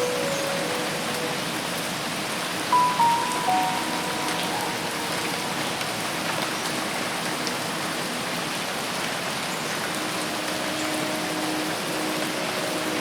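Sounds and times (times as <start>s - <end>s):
heavy rain on foliage: 0.0s - 13.0s.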